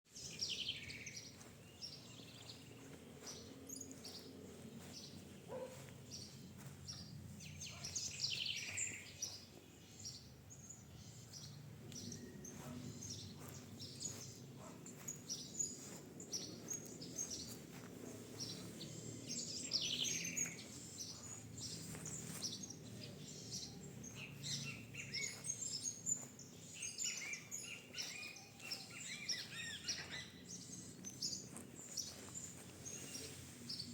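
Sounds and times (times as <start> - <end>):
birds chirping and singing: 0.1 - 33.9.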